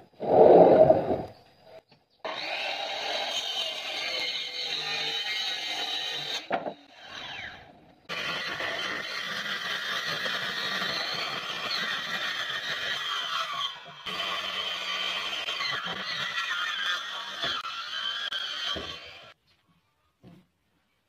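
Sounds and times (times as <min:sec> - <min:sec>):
circular saw cutting wood: 0:02.3 - 0:19.4.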